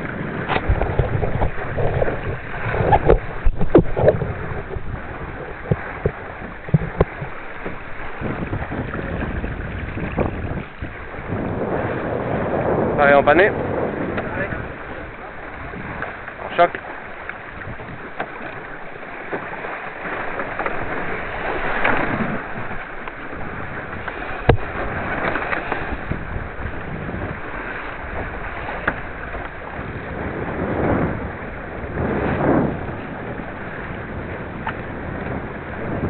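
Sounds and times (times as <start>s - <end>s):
water rushing along boat hull: 0.0s - 36.0s
wind on microphone: 0.0s - 36.0s.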